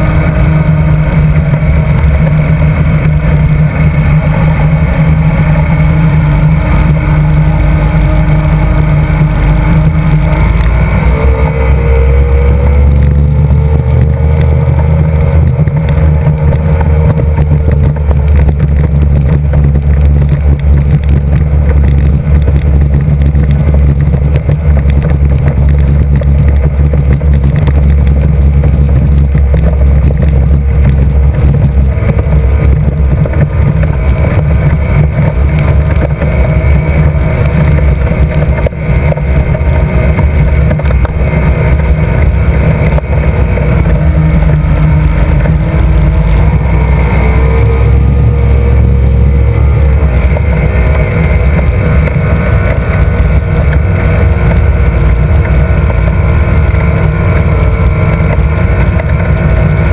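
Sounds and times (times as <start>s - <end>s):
outboard motor at full throttle: 0.0s - 59.9s.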